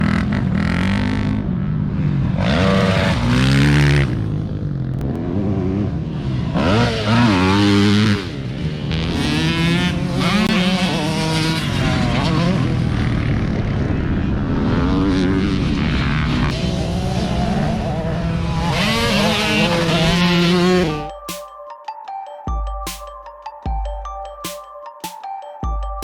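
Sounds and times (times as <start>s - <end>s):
dirt bike engines revving: 0.0s - 21.1s.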